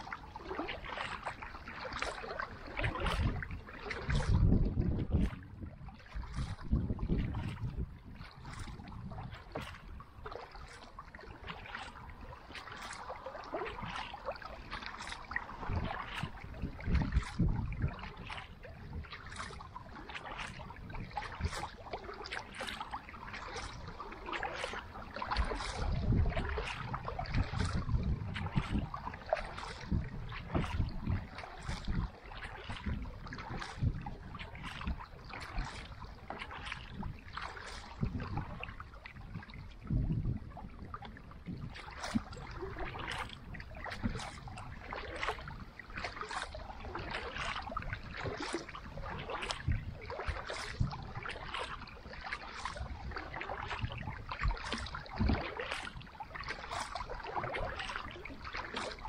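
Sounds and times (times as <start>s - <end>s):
paddle splashing in water: 0.0s - 59.0s
water lapping on hull: 0.0s - 59.0s.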